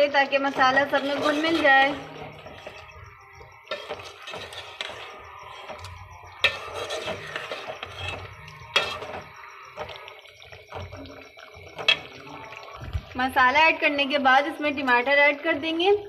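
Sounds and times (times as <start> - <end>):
spoon scraping and squelching in pot: 0.0 - 13.1.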